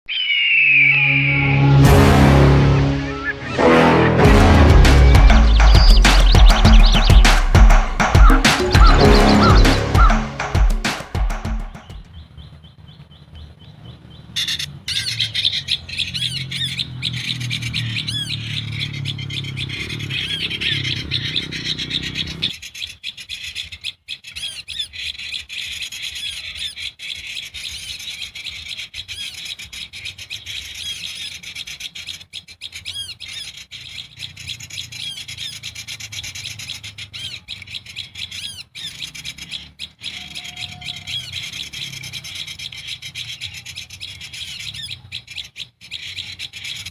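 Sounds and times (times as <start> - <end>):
birds chirping rapidly: 0.0 - 1.1, 2.8 - 46.9.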